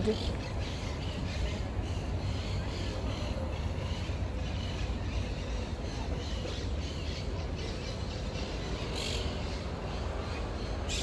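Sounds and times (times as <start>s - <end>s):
birds squawking and chirping: 0.0s - 11.0s
low rumble of street ambience: 0.0s - 11.0s.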